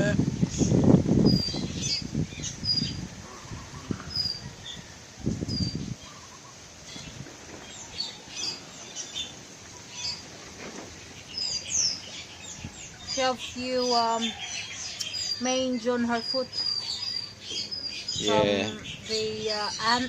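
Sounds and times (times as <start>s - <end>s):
starlings chirping and whistling: 0.5s - 4.8s, 5.4s - 10.3s, 11.0s - 20.0s.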